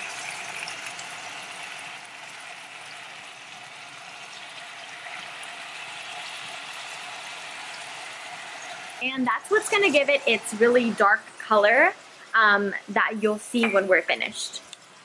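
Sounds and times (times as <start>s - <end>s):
meat sizzling in a pan: 0.0s - 12.6s.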